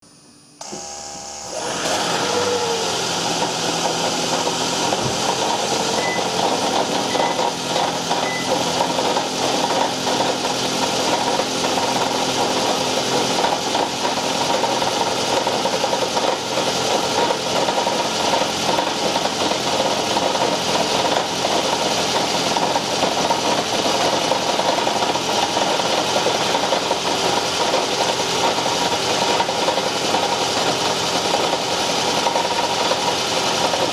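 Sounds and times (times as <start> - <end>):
car engine starting and running: 0.6 - 33.9.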